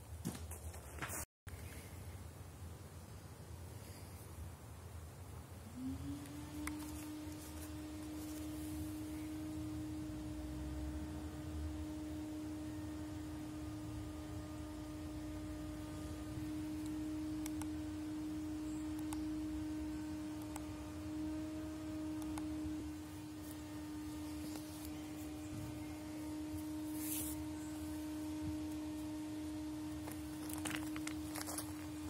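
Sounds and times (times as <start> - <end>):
steady pure held tone: 0.0 - 32.0.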